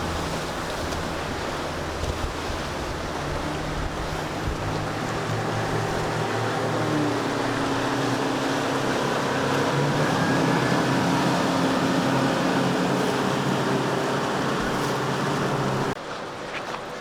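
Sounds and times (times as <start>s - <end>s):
boat engine running: 0.0s - 16.0s
water rushing: 0.0s - 17.0s
wind: 0.0s - 17.0s.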